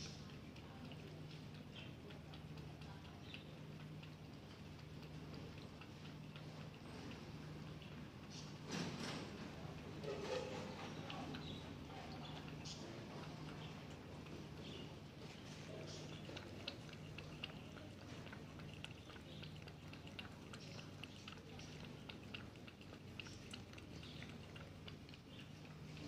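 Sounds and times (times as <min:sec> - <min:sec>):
cat lapping milk: 0:00.0 - 0:26.0.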